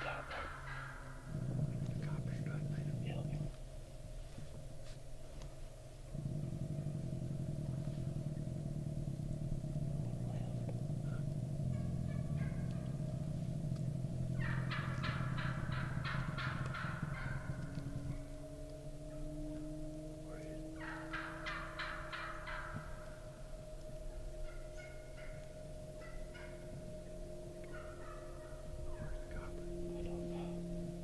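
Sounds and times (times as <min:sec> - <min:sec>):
turkey gobbling: 0:00.0 - 0:03.6, 0:06.1 - 0:31.0
steady low rumble: 0:00.0 - 0:31.0.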